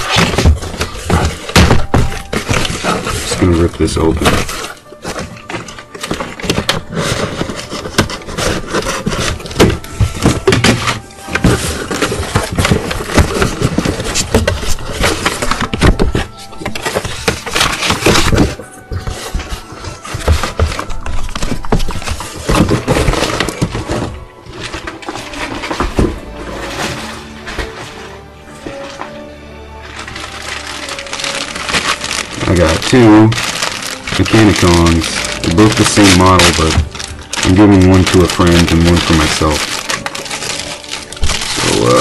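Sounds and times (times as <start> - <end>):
box bumping: 0.0 - 29.1, 29.9 - 42.0
cardboard box tearing and rustling: 0.0 - 29.1, 29.8 - 42.0.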